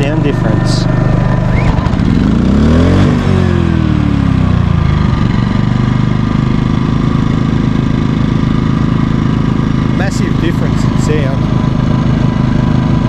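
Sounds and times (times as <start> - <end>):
generator engine speeding up: 0.0 - 13.0
portable generator running: 0.0 - 13.0.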